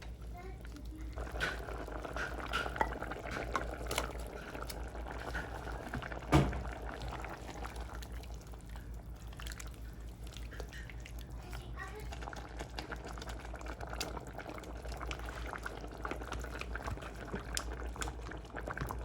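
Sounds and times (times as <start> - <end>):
water pouring into a pot: 0.0 - 19.0.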